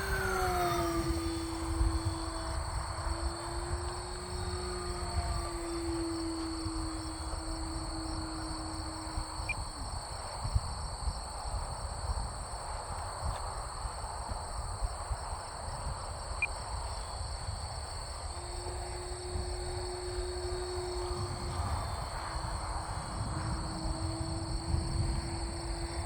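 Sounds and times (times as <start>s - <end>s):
model plane motor tone: 0.0s - 11.8s, 15.8s - 26.0s
high insect-like drone: 0.0s - 26.0s
wind rumble on microphone: 0.0s - 26.0s.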